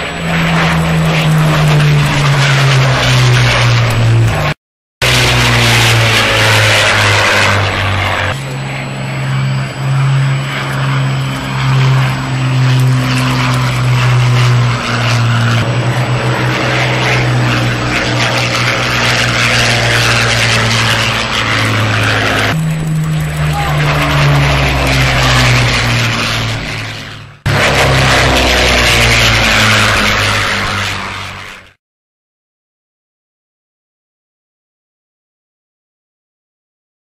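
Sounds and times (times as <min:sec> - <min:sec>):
fighter plane piston engines droning: 0:00.0 - 0:31.8.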